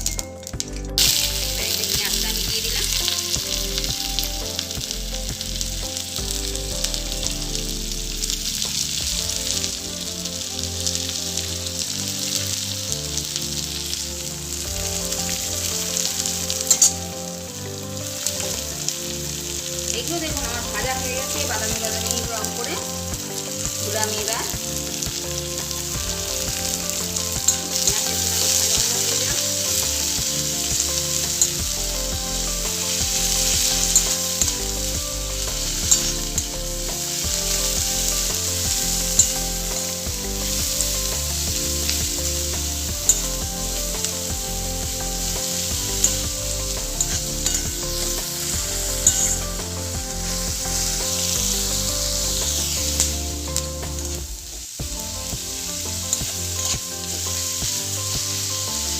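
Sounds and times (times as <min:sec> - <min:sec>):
onions sizzling in pan: 0:00.0 - 0:58.9.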